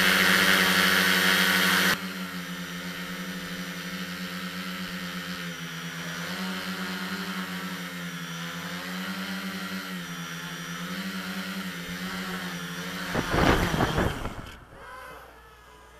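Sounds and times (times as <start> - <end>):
drone motors humming: 0.0 - 15.9.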